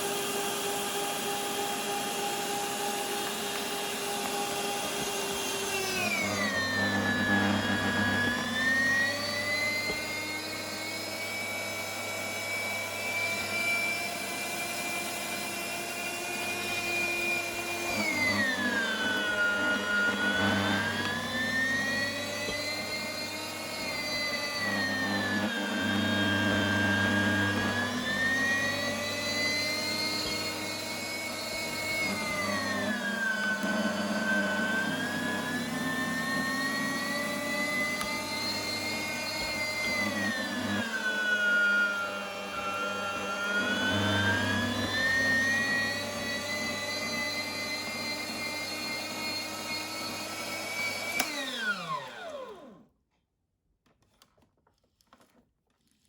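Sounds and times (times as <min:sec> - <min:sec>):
electric meat grinder motor whining: 0:00.0 - 0:52.9.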